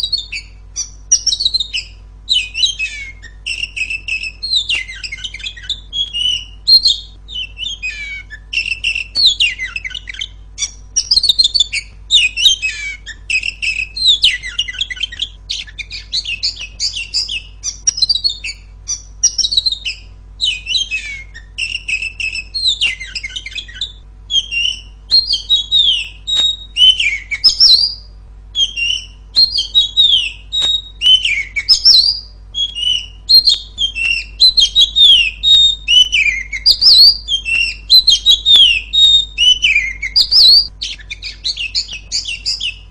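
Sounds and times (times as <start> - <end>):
bird singing whistled phrases: 0.0 - 42.9.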